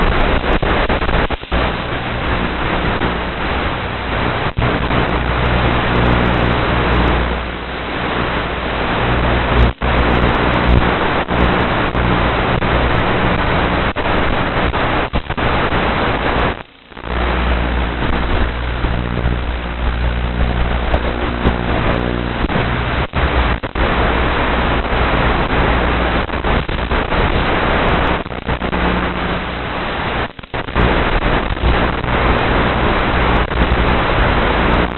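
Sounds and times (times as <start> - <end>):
wind rush on microphone: 0.0 - 34.9.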